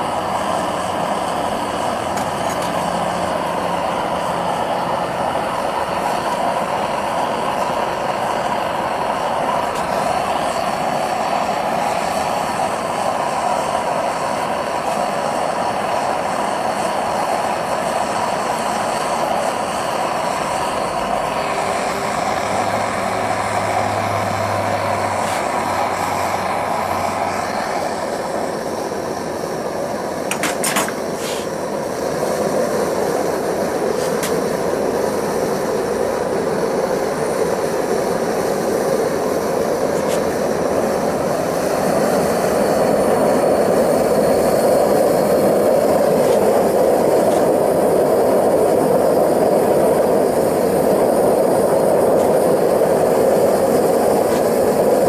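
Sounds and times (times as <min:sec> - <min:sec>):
propane burner rushing: 0:00.0 - 0:55.0.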